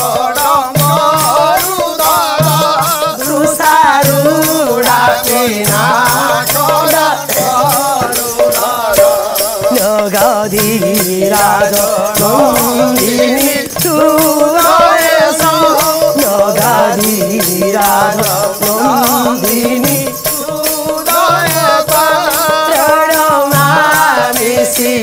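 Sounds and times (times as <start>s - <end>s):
rhythmic percussion: 0.0s - 25.0s
woman singing devotional song: 0.0s - 25.0s.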